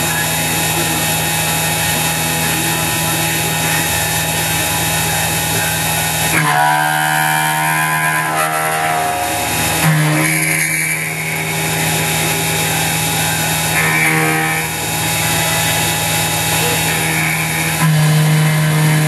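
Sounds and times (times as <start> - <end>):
end mill cutting metal: 0.0 - 19.0
high-pitched cutting whine: 0.0 - 19.0
milling machine hum: 0.0 - 19.0.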